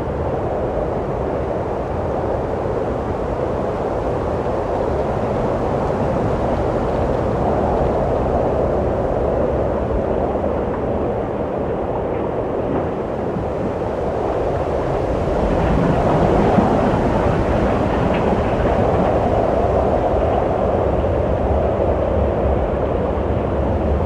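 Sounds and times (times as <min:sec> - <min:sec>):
wind blowing with low rumble: 0:00.0 - 0:24.0.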